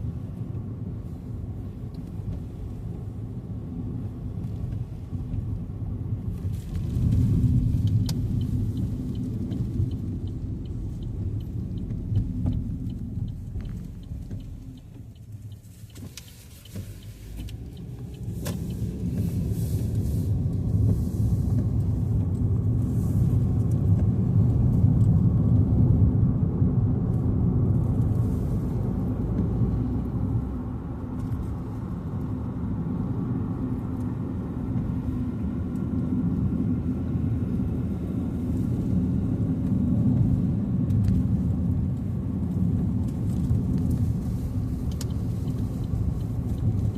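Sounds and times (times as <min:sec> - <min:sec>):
road and engine rumble inside car: 0:00.0 - 0:46.9.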